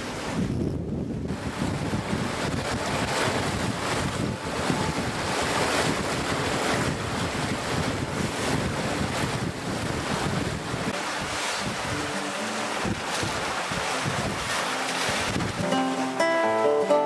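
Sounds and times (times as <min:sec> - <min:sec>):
wind buffeting microphone: 0:00.0 - 0:15.7
water rushing in boat wake: 0:00.0 - 0:17.0.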